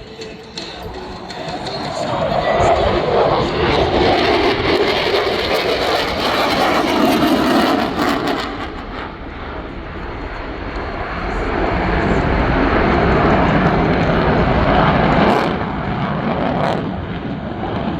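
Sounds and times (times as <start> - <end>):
airplane engine passing: 0.0 - 17.9.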